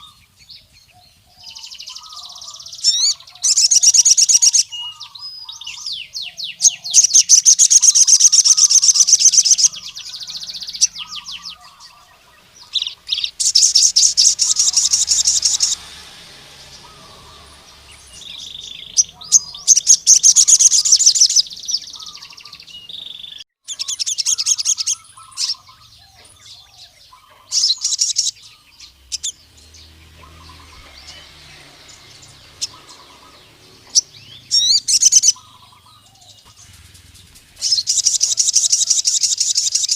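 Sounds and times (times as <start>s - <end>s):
bird singing high trills: 0.0s - 39.9s
faint bird chirps: 0.0s - 39.9s.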